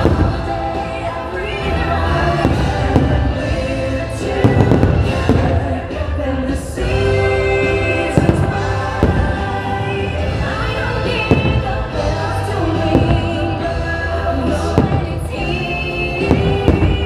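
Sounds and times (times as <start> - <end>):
fireworks bangs: 0.0 - 6.1, 6.9 - 17.0
christmas music with singing: 0.0 - 17.0.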